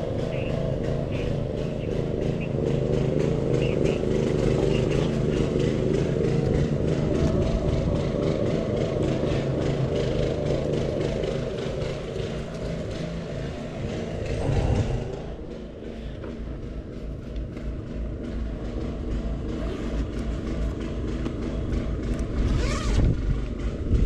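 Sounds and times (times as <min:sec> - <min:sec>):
car engine hum: 0:00.0 - 0:24.0
tyre and road noise: 0:00.0 - 0:24.0.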